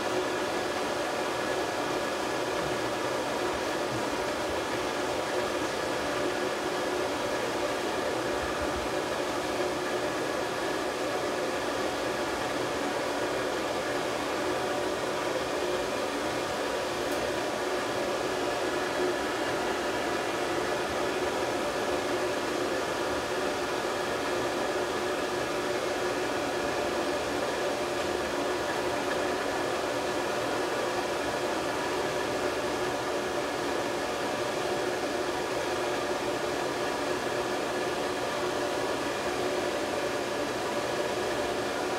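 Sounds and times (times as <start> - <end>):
hair dryer blowing air: 0.0 - 41.9.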